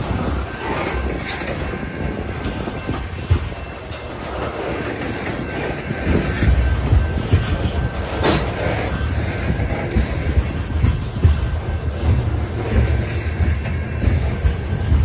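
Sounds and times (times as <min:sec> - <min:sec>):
freight train rumbling: 0:00.0 - 0:15.0
wheels clacking over rail joints: 0:00.0 - 0:15.0.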